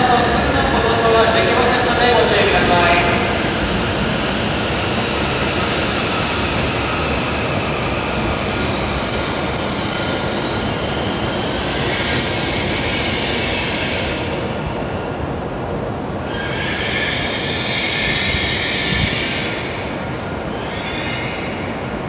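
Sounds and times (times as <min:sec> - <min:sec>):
train rushing noise: 0:00.0 - 0:22.0.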